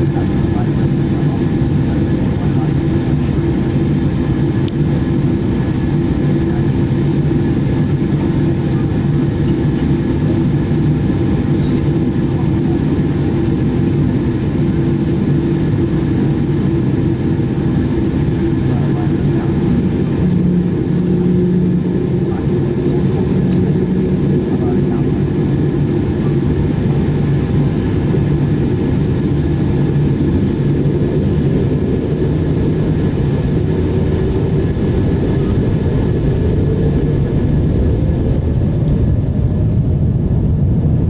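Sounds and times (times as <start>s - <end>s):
airliner drone: 0.0s - 41.0s.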